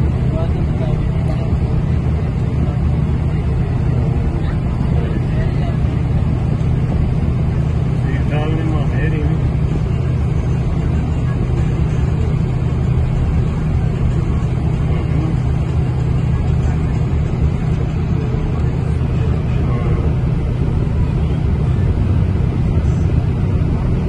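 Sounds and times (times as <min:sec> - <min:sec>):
road and engine rumble: 0:00.0 - 0:24.0.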